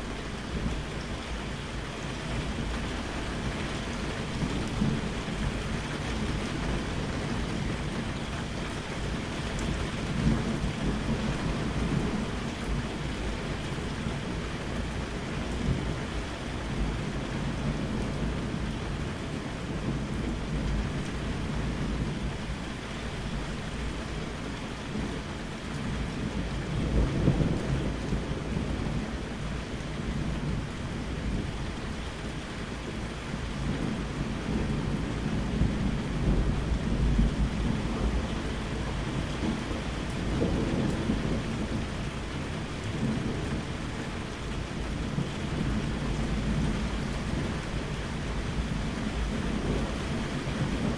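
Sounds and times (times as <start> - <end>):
steady rain falling: 0.0 - 50.9
thunder rumbling: 0.0 - 50.9.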